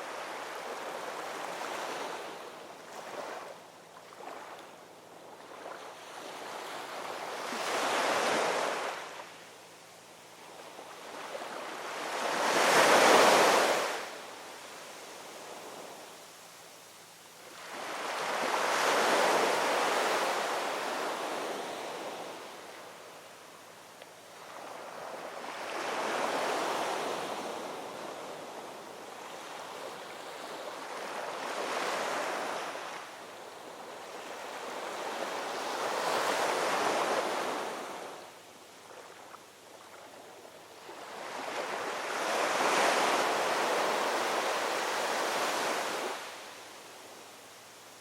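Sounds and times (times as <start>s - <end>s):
ocean waves breaking on shore: 0.0s - 9.4s, 10.4s - 16.0s, 17.4s - 23.1s, 24.3s - 47.2s.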